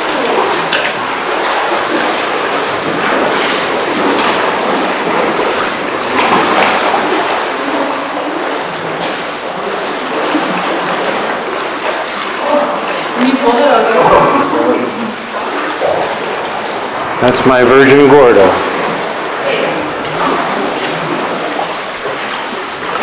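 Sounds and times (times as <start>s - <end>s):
sea surf washing among boulders: 0.0s - 23.0s.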